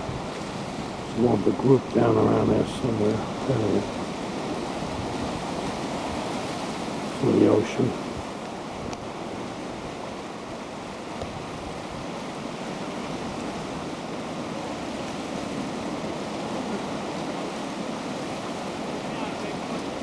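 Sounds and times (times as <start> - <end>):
ocean surf washing in: 0.0 - 20.0.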